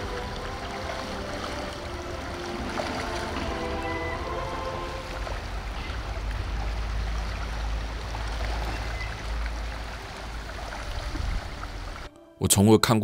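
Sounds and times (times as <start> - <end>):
creek water running over gravel: 0.0 - 12.1.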